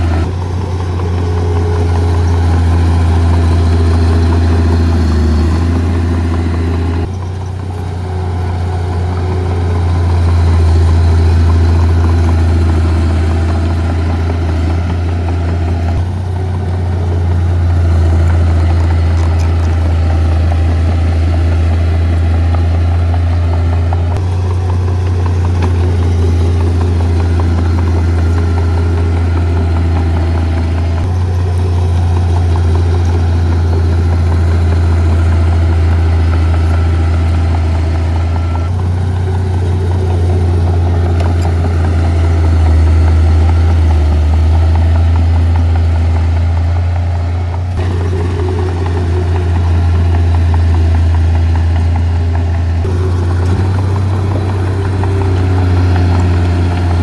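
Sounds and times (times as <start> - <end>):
heavy diesel engine drone: 0.0 - 57.0.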